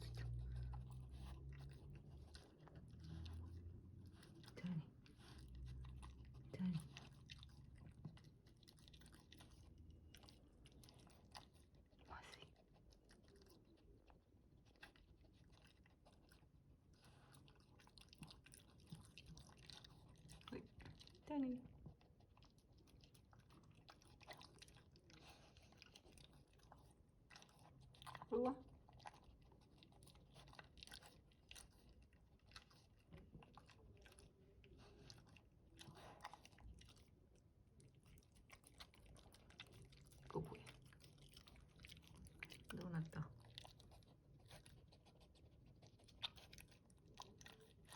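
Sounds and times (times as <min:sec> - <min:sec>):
dog chewing food: 0:00.0 - 0:47.9.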